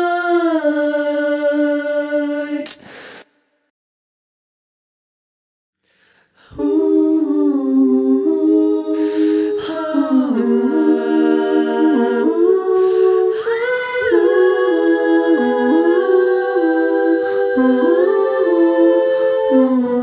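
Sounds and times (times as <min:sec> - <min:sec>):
stacked vocal harmonies: 0:00.0 - 0:03.0, 0:06.4 - 0:20.0.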